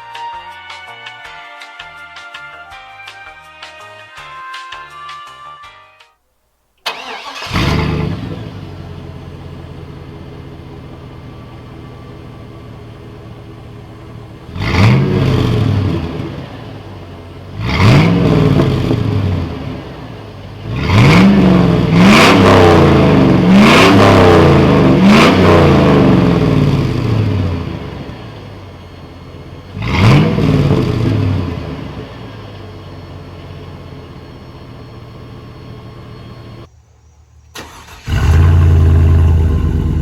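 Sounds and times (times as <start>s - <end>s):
pickup engine idling and revving: 6.9s - 36.7s, 37.7s - 40.0s.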